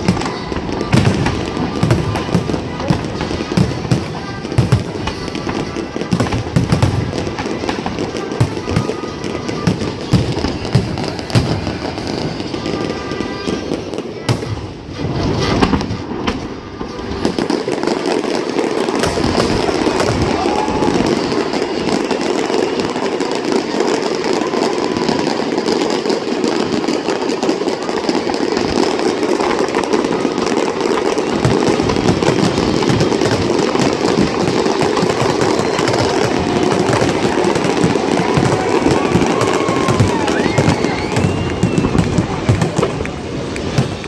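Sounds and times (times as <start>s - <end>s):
crowd voices: 0.0s - 44.0s
fireworks booming and cracking: 0.0s - 44.0s
fireworks crackling: 0.0s - 44.0s.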